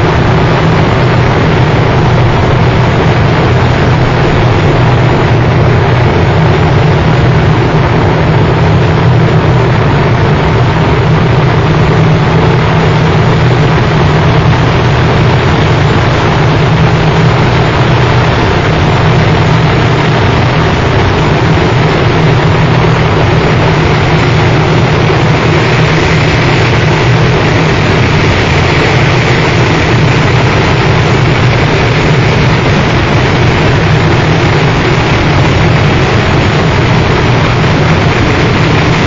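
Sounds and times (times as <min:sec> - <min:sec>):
dense distorted noise: 0:00.0 - 0:39.0
heavy low drone: 0:00.0 - 0:39.0.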